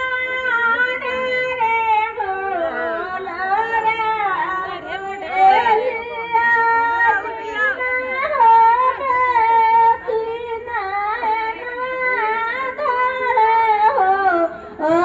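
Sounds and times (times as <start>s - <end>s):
women singing unaccompanied: 0.0s - 15.0s.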